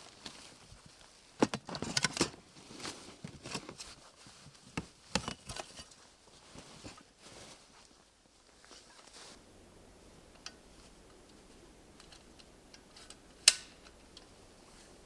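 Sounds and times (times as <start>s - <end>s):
faint background hiss: 2.2s - 15.0s.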